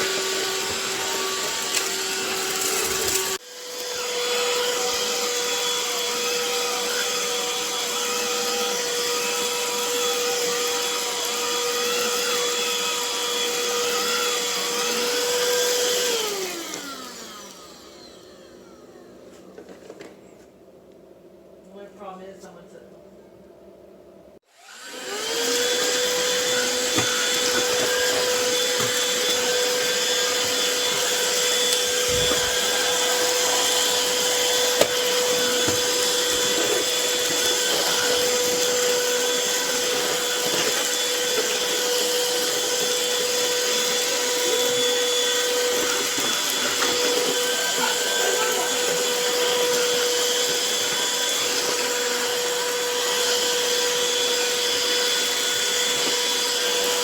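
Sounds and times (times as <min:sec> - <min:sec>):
stick vacuum motor whining: 0:00.0 - 0:20.1, 0:24.5 - 0:57.0.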